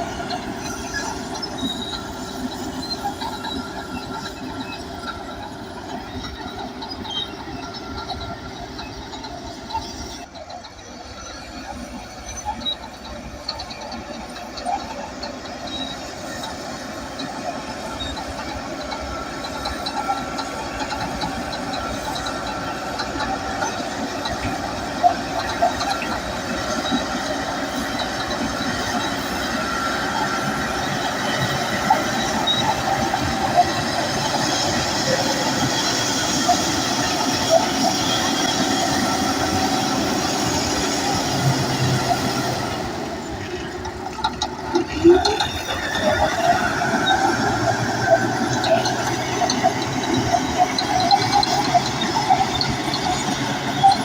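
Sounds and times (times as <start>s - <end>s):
diesel engine running: 0.0s - 54.0s
steel tracks clanking and squealing: 0.0s - 54.0s.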